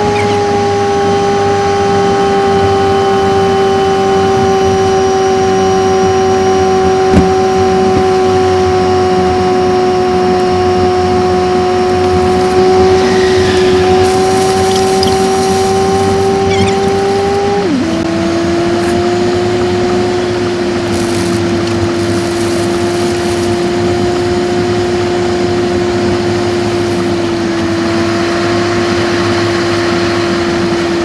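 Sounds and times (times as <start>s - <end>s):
sped-up engine drone: 0.0s - 31.0s.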